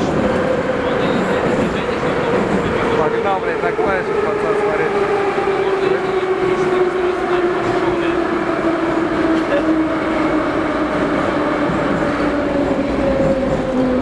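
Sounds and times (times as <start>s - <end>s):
metro train running noise: 0.0s - 14.0s.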